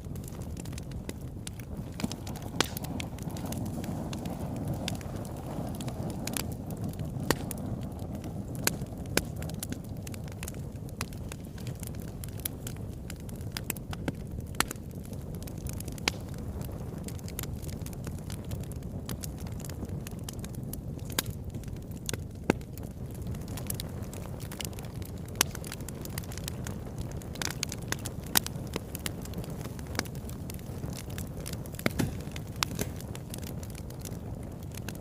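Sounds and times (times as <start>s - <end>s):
fire crackling and popping: 0.0s - 35.0s
low rumble of flames: 0.0s - 35.0s.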